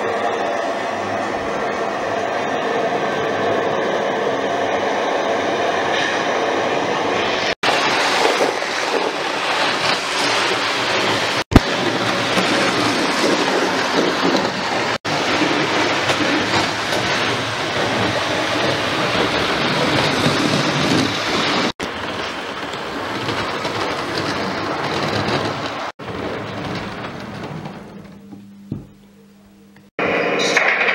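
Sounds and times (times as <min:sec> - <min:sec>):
train running on rails: 0:00.0 - 0:29.1, 0:30.0 - 0:30.9.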